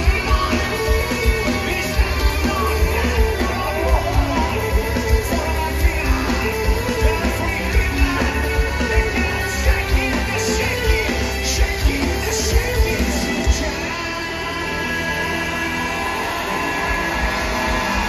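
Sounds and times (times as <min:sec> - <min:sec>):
person singing: 0:00.0 - 0:18.0
rock band playing live: 0:00.0 - 0:18.0
steady drum beat: 0:00.0 - 0:18.0.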